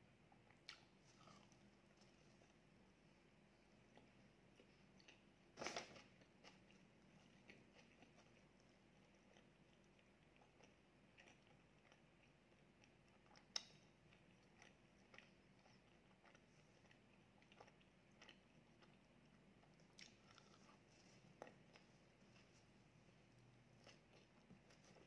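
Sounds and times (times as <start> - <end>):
faint chewing: 0.3 - 25.0.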